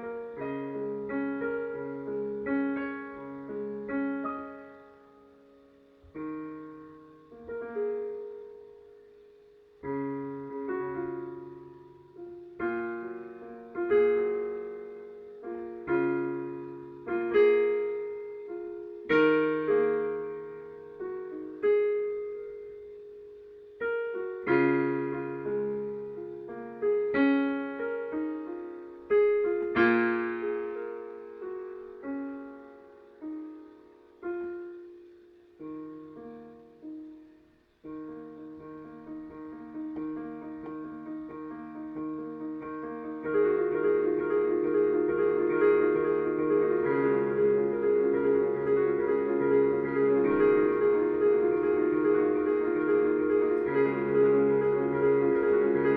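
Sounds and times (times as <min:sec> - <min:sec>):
solo piano playing slow chords: 0:00.0 - 0:55.9.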